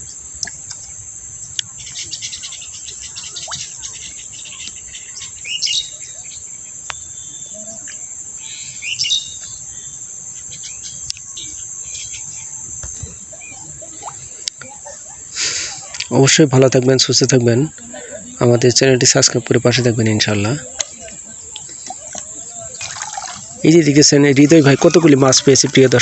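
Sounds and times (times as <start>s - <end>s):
small birds chirping: 0.0s - 16.3s, 18.4s - 26.0s
high-pitched insect drone: 0.0s - 16.5s, 18.4s - 26.0s.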